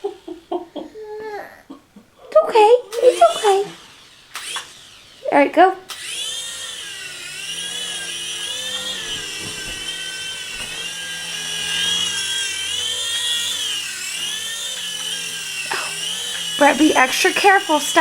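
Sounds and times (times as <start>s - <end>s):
toy helicopter motor whine: 2.9s - 18.0s.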